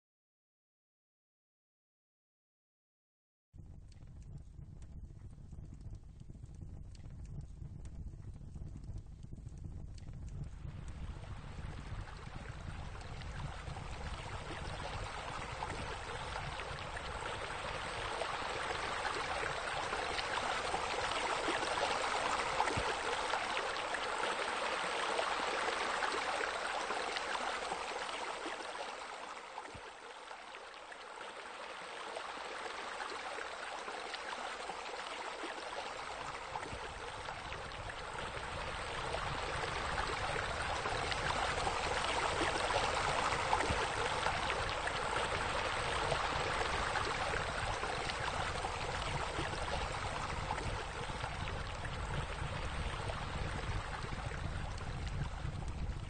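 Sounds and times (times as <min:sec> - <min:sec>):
running trickling water: 0:06.9 - 0:56.0.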